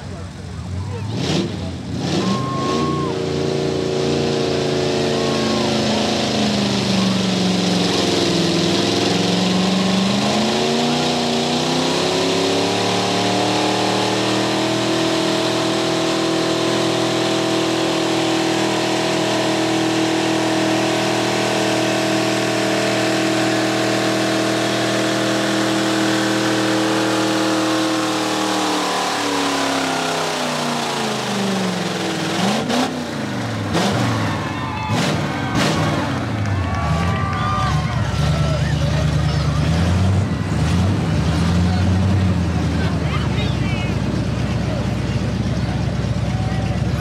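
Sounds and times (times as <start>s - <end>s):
truck engine under full load: 0.0s - 47.0s.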